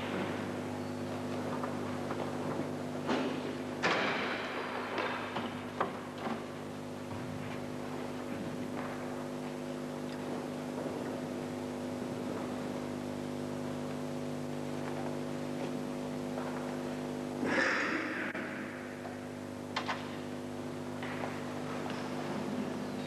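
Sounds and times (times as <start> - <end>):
buzzy electrical hum: 0.0 - 23.0.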